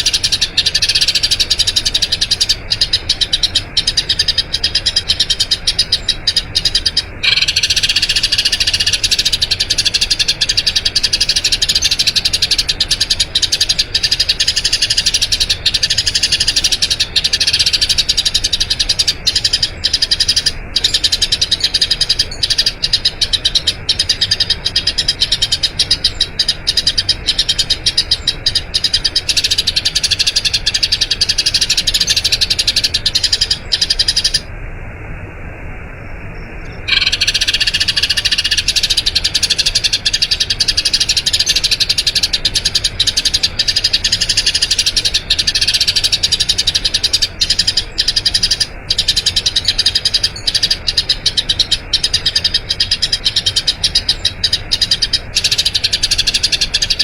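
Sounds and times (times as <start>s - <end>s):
sparrow chirping chatter: 0.0s - 34.5s, 36.6s - 57.0s.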